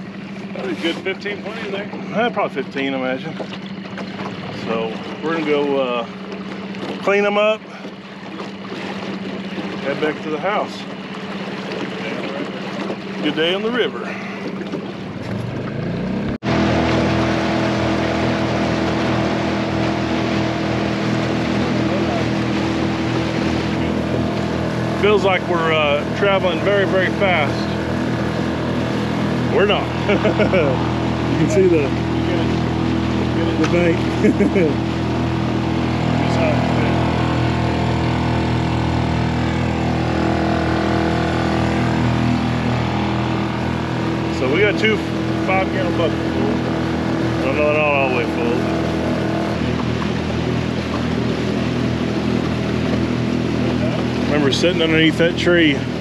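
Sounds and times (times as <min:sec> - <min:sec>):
boat motor running: 0:00.0 - 0:56.0
water noise: 0:00.0 - 0:56.0.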